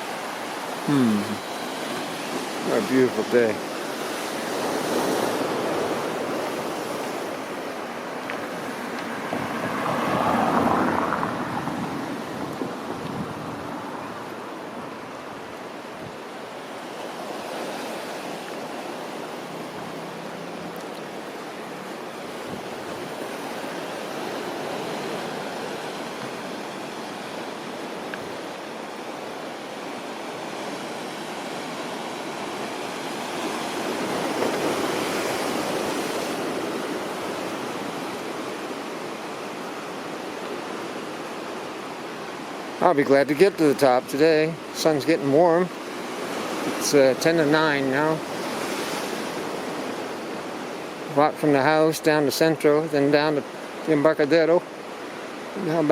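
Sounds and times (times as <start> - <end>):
ocean surf washing on shore: 0.0 - 55.9.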